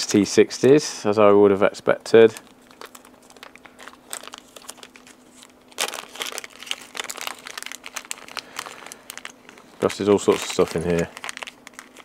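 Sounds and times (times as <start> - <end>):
plastic bag crinkling: 2.2 - 12.0.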